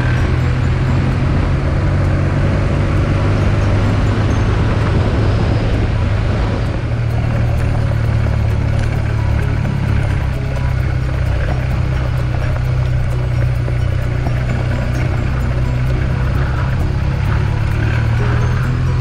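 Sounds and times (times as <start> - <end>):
motorcycle engine running: 0.0 - 19.0
road noise: 0.0 - 19.0
rushing wind: 0.0 - 19.0
tyres ticking on gravel: 0.0 - 19.0.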